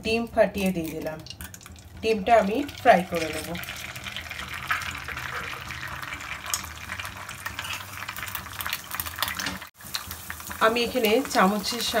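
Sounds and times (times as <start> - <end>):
egg sizzling in a pan: 0.8 - 12.0.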